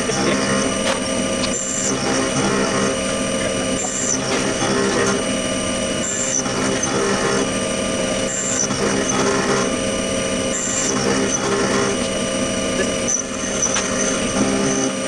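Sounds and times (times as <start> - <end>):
milling machine spindle whine: 0.0 - 15.0.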